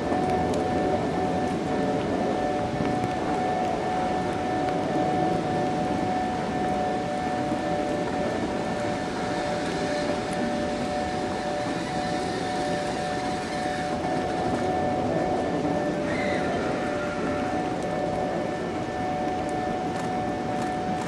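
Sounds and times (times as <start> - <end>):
steady humming tones: 0.0 - 21.0.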